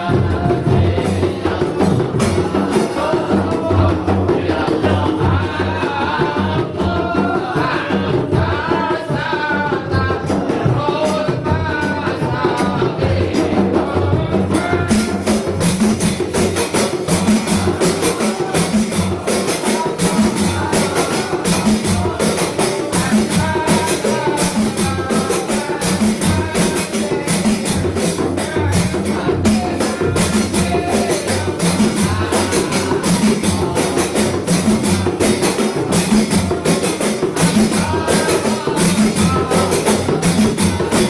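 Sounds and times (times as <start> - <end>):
frame drums in dense rhythm: 0.0 - 41.0.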